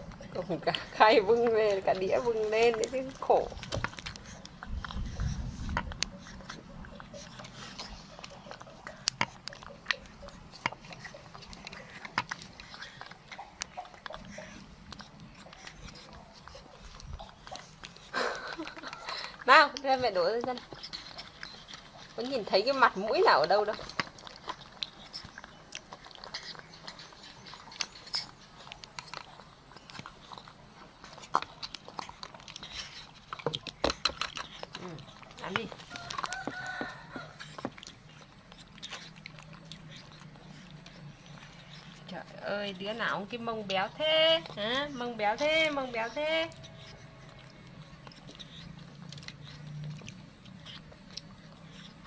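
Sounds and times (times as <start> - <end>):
lip and tongue clicks: 0.0 - 52.0
monkey lapping milk: 0.0 - 52.0.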